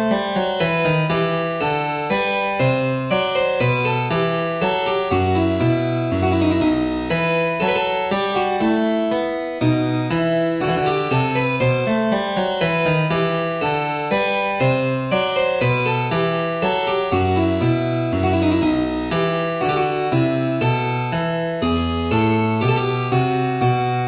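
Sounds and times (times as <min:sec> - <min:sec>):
harpsichord music: 0:00.0 - 0:24.0.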